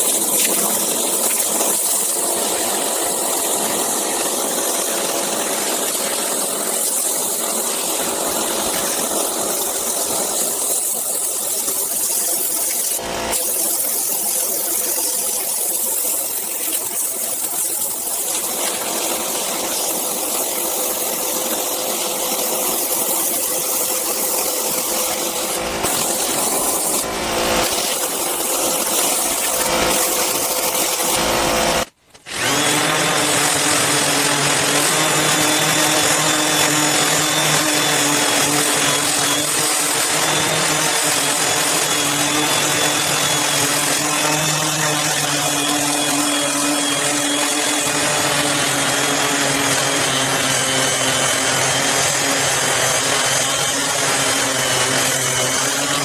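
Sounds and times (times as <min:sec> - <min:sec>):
machine noise: 0:00.0 - 0:56.0
orbital sander on wood: 0:00.0 - 0:56.0.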